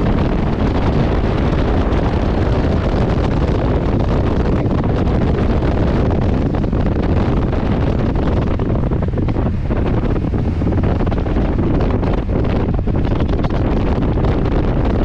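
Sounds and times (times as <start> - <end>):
motorcycle engine: 0.0 - 15.0
wind buffeting microphone: 0.0 - 15.0.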